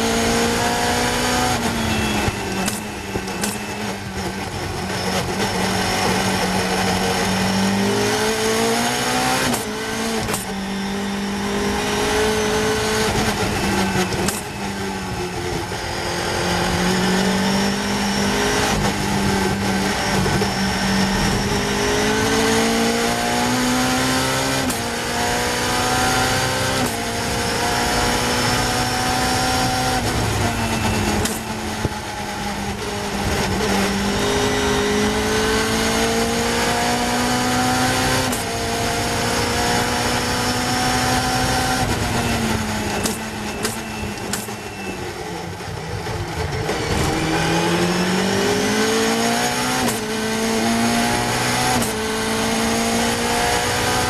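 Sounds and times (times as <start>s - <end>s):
racing car engine revving: 0.0s - 54.0s.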